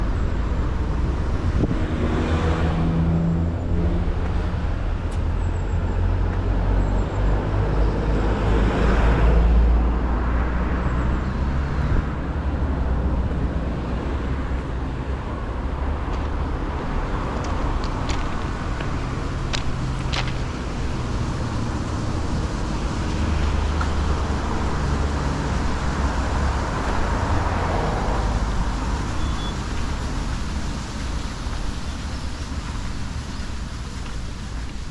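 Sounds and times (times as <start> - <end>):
vehicle passing: 0.0 - 5.0, 5.6 - 31.7
road traffic rumble: 0.0 - 34.9.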